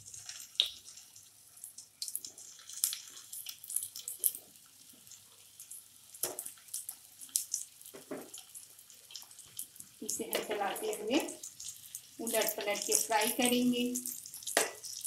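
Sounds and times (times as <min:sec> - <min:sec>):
crackles: 0:00.0 - 0:15.0
food sizzling in hot oil: 0:00.0 - 0:15.0.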